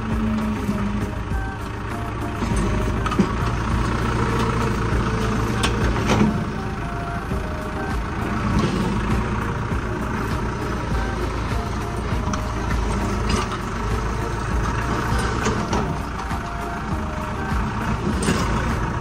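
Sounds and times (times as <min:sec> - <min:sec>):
heavy vehicle engine running: 0:00.0 - 0:19.0.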